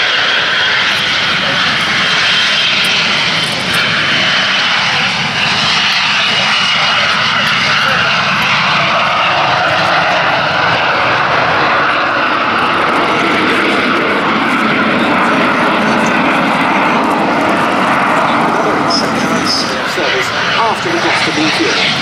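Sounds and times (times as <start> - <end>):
high jet whine: 0.0 - 22.0
jet engines roaring on take-off: 0.0 - 22.0.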